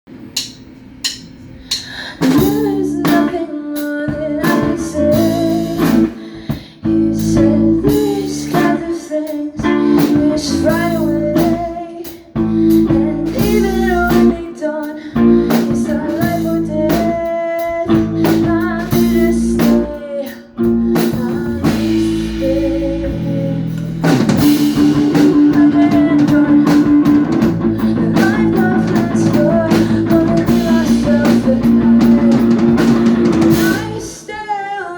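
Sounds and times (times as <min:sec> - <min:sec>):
rock band playing live: 0:02.2 - 0:34.2.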